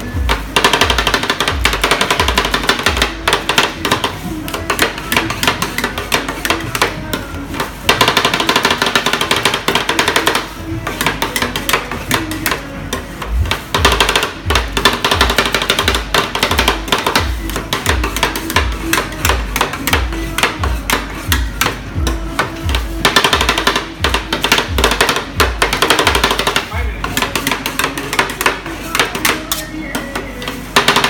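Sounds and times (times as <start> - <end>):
music playing: 0.0 - 31.0
metal spatulas clacking on steel plate: 0.3 - 21.8, 23.1 - 31.0.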